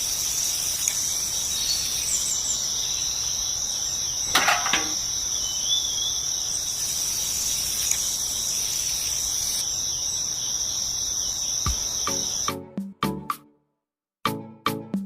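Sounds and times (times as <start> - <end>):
insects chirring: 0.0 - 12.6.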